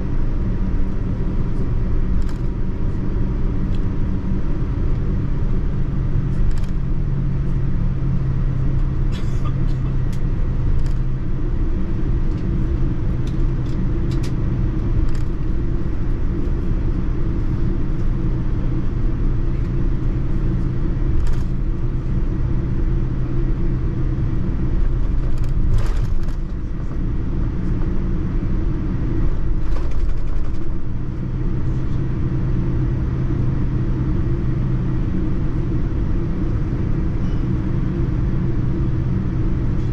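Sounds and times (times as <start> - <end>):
constant cabin hum: 0.0 - 39.9
low rumble of engines and airflow: 0.0 - 39.9.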